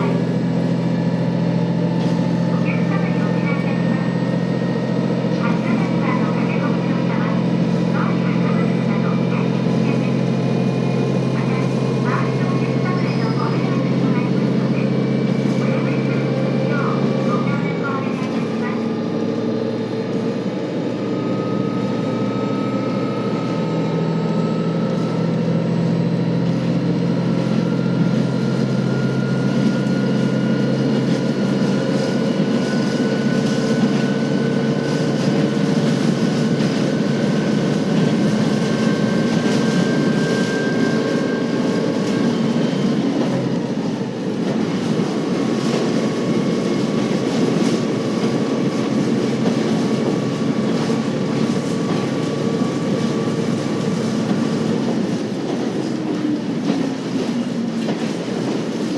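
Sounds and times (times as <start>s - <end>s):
diesel railcar engine: 0.0s - 58.9s
wheels rumbling on rails: 0.0s - 58.9s.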